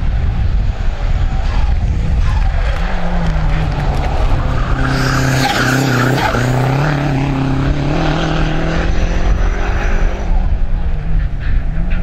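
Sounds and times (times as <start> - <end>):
race car engine: 0.0 - 12.0.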